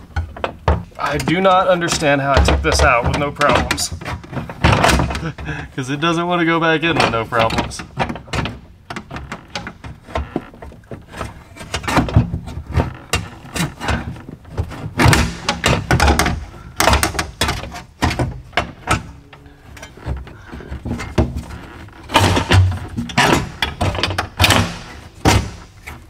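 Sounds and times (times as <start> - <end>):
metal knocks clunks and scraping: 0.0 - 26.0.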